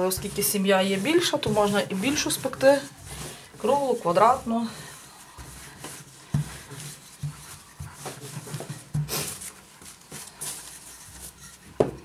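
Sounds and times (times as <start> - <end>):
dough knocks and rustles: 0.0 - 12.0
rolling pin rolling over dough: 0.0 - 12.0.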